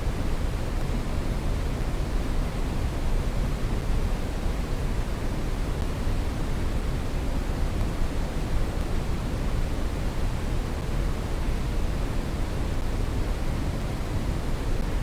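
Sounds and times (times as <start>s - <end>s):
brown noise hiss: 0.0s - 15.0s.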